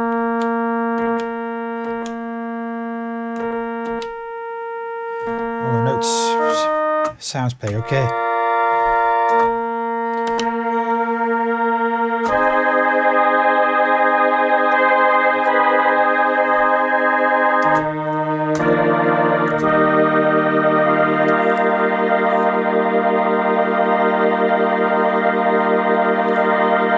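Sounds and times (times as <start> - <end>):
string synthesizer chords: 0.0 - 26.9.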